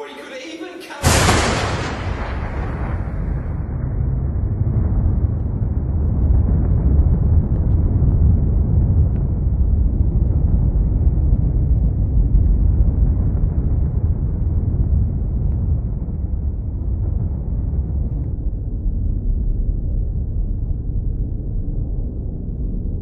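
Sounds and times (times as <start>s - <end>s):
deep rumble: 1.0s - 23.0s.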